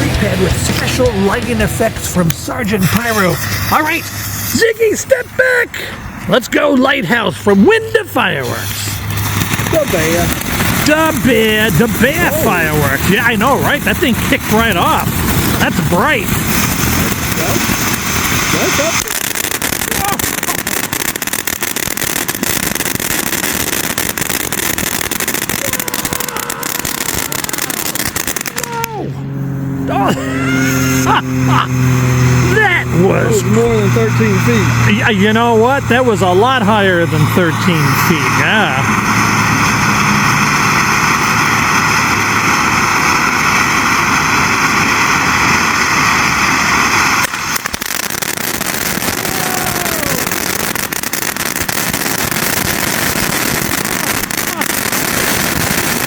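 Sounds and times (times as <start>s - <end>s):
firework fountain hissing and crackling: 0.0s - 29.0s, 30.0s - 56.0s.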